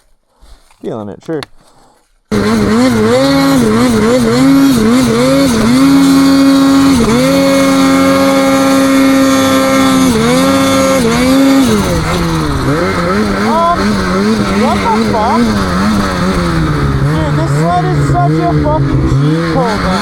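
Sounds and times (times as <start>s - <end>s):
snowmobile engine revving: 2.3s - 20.0s.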